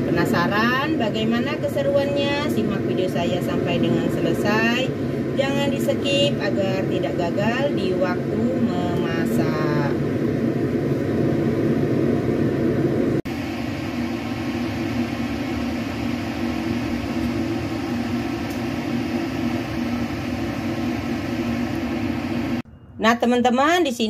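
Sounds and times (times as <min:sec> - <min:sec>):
fan-like mechanical hum: 0:00.0 - 0:23.8.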